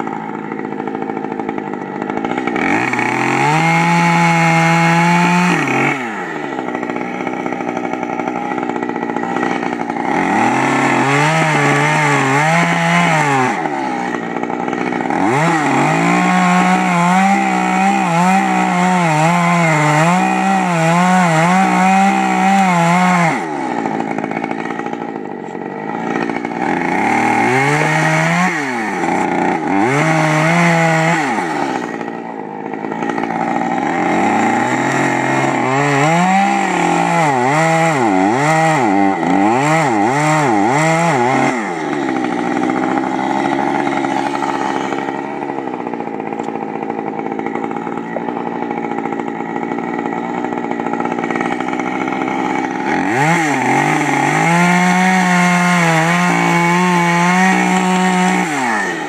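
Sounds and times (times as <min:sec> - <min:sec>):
chainsaw engine revving: 0:00.0 - 0:59.0.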